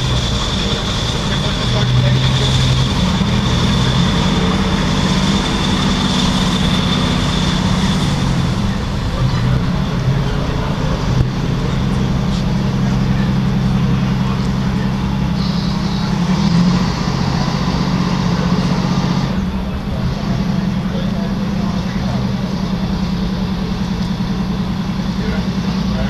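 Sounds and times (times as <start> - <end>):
ship diesel engines droning: 0.0 - 26.0
thin high whine: 2.1 - 26.0.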